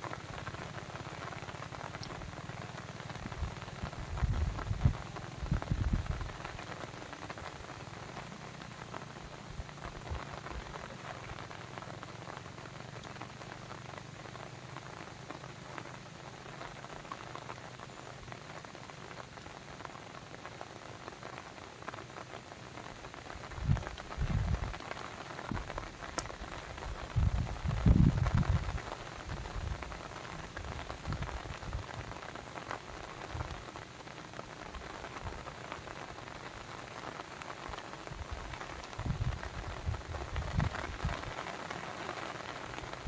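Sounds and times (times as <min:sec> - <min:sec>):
rain pattering: 0:00.0 - 0:43.0.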